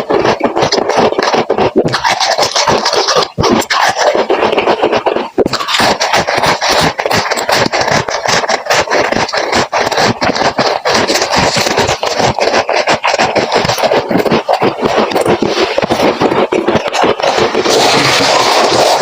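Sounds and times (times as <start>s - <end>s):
chewing crunchy frost: 0.0s - 19.0s.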